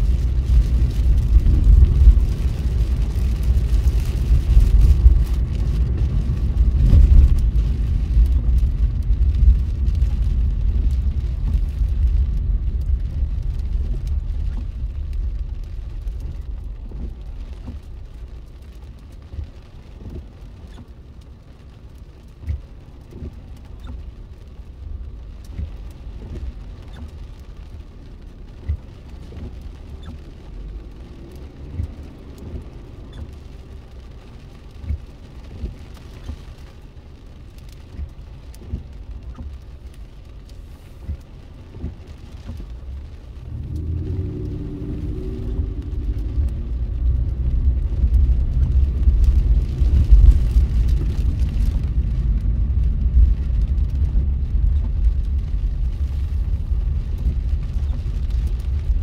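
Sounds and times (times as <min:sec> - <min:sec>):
freezing rain falling: 0:00.0 - 0:59.0
low steady rumble: 0:00.0 - 0:59.0
sharp ticks and drips: 0:00.0 - 0:59.0.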